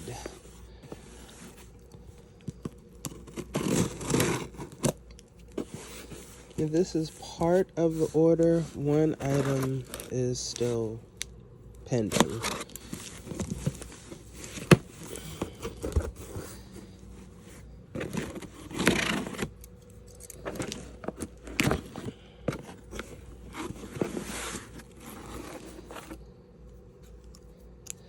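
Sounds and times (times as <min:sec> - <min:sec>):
paper and cardboard rustling: 0:00.0 - 0:11.0, 0:11.9 - 0:26.3.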